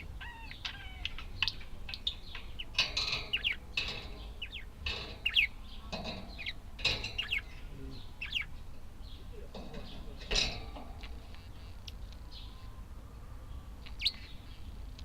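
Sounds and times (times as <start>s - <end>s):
budgerigars chirping: 0.0s - 12.8s, 13.8s - 14.8s.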